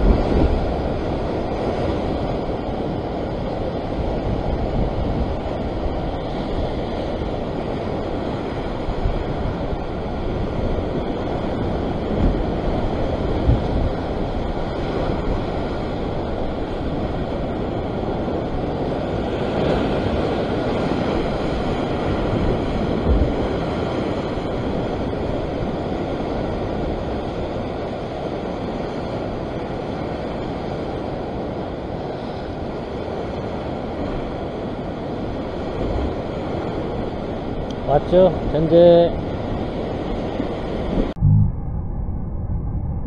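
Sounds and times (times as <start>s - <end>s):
ocean surf against rocks: 0.0s - 41.2s
wind rumbling on microphone: 0.0s - 43.0s.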